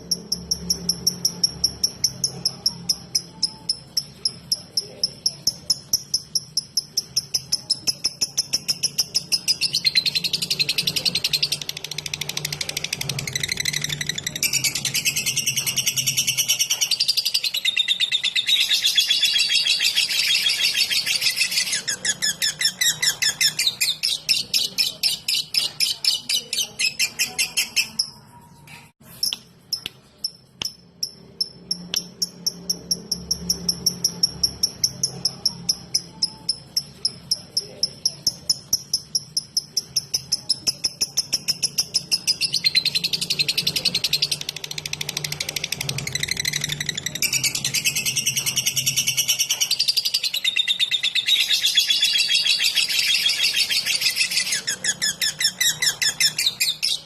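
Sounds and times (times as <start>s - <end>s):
lovebird chattering and ticking: 0.0s - 28.4s, 29.1s - 57.0s.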